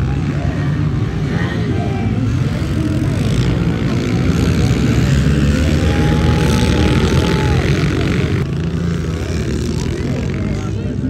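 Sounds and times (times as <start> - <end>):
pit bike engines revving: 0.0 - 11.0.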